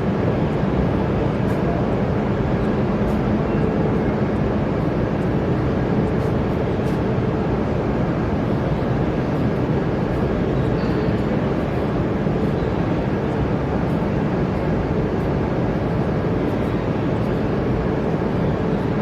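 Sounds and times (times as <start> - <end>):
high-speed train rumble and rush: 0.0 - 19.0.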